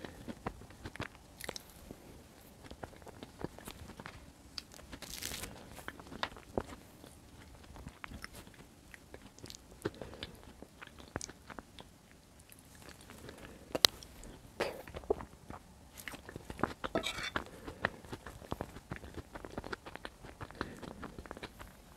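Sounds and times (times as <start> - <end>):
chewing food: 0.0 - 21.9.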